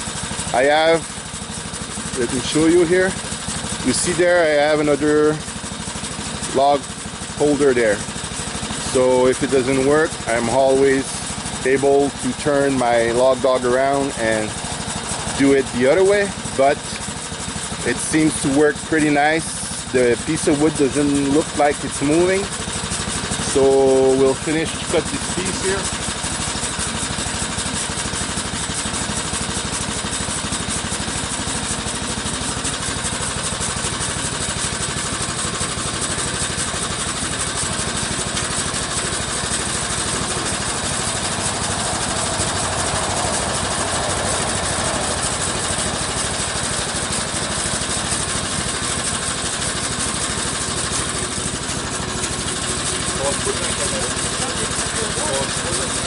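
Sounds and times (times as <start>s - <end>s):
bandsaw sawmill cutting log: 0.0s - 56.0s.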